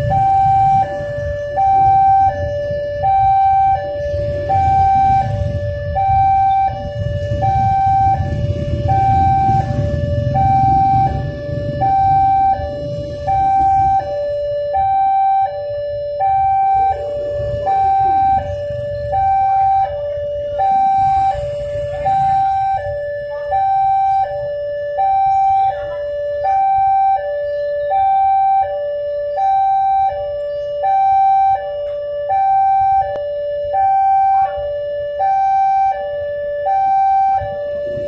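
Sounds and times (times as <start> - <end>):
engines rumbling low: 0.0 - 38.0
level crossing two-tone alarm: 0.0 - 38.0.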